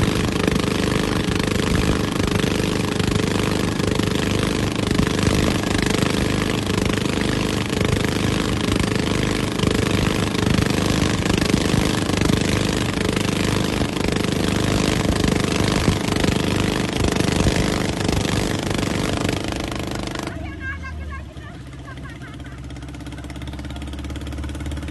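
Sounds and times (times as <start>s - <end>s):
motorboat engine rattling: 0.0s - 24.9s.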